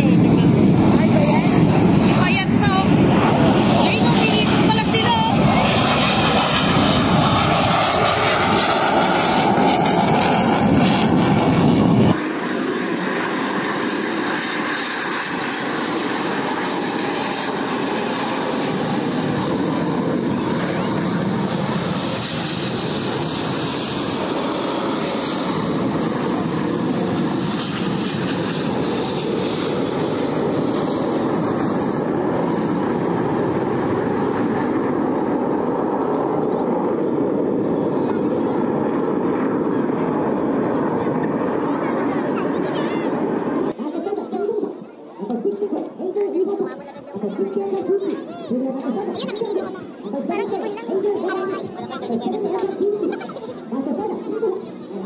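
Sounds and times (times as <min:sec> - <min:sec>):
jet engine roar: 0:00.0 - 0:55.0.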